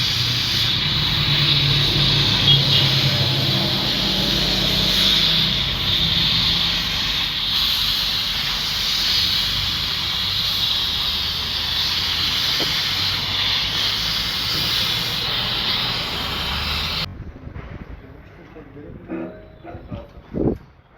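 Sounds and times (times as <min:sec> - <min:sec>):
arc welding hissing crackle: 0:00.0 - 0:17.1.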